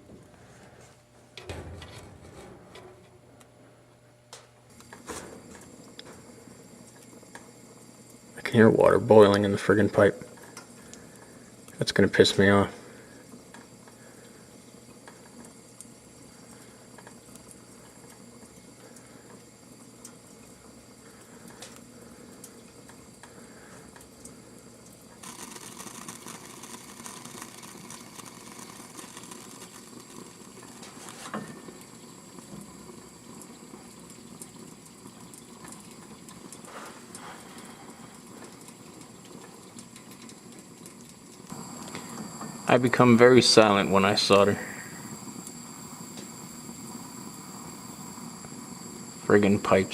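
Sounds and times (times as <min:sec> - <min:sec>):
water boiling in copper pipe: 0:00.0 - 0:49.9
steady hiss: 0:04.7 - 0:39.9, 0:41.4 - 0:49.9.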